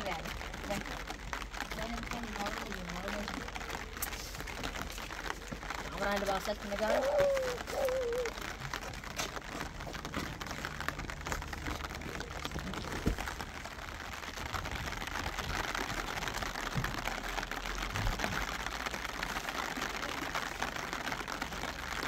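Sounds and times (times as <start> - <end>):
rain pattering on surface: 0.0 - 22.0.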